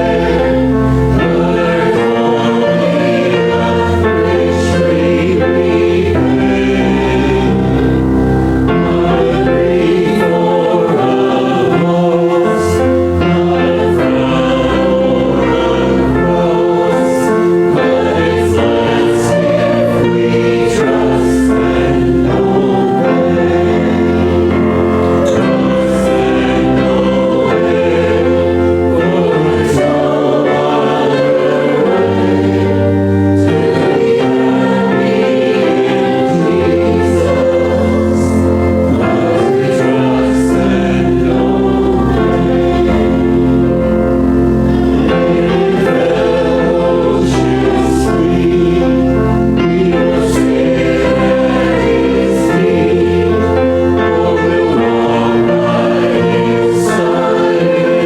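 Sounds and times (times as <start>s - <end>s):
congregation singing a hymn: 0.0s - 58.0s
musical accompaniment with bass line: 0.0s - 58.0s.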